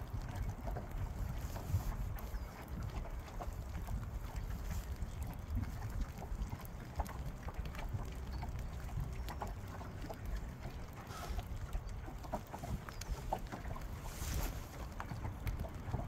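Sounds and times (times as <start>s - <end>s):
light ticks and taps: 0.0s - 16.0s
wind rumbling on microphone: 0.0s - 16.0s.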